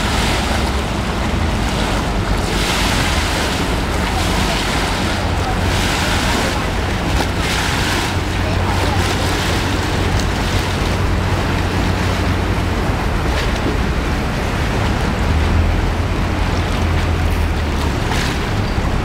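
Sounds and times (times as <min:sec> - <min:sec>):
boat engine droning: 0:00.0 - 0:19.0
river water churning and splashing: 0:00.0 - 0:19.0.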